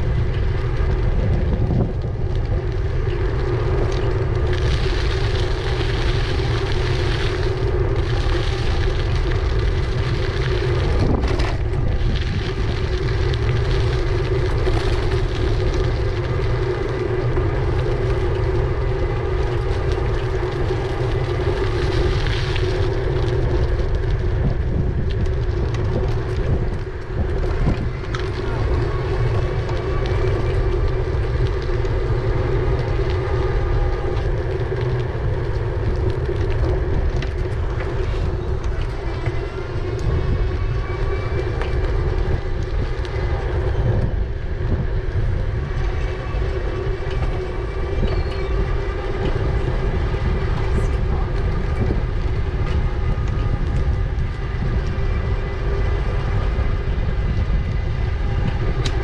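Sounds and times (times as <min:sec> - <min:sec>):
electric bike hum: 0:00.0 - 0:59.0
wind rumble on microphone: 0:00.0 - 0:59.0.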